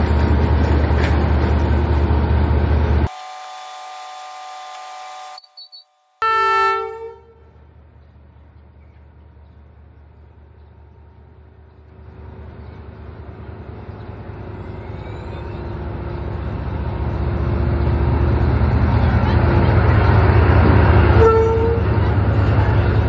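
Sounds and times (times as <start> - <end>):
locomotive engine running: 0.0 - 3.3, 7.4 - 23.0.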